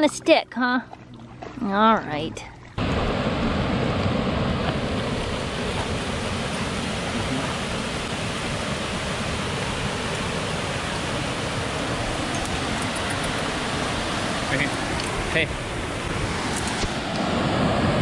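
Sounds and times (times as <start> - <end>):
waterfall rushing: 2.8 - 18.0.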